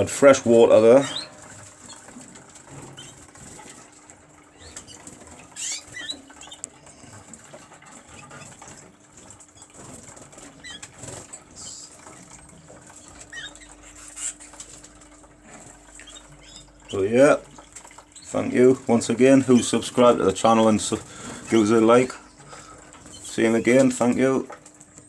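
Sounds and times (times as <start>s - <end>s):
birds fluttering wings: 0.0s - 25.0s.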